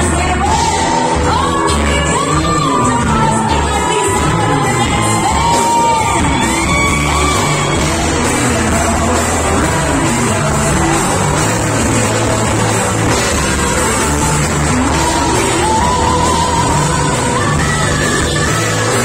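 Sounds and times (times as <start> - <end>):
drums: 0.0 - 19.0
electric guitar: 0.0 - 19.0
woman singing lead: 0.0 - 19.0.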